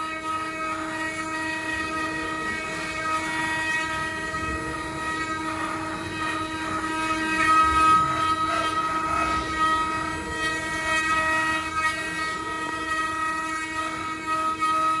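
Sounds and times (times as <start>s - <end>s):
cnc router spindles whining: 0.0s - 15.0s
router cutting wood: 0.0s - 15.0s.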